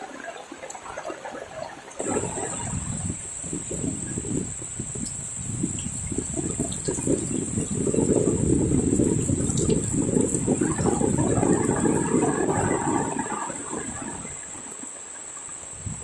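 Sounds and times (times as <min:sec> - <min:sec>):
water gushing and splashing: 0:00.0 - 0:16.0.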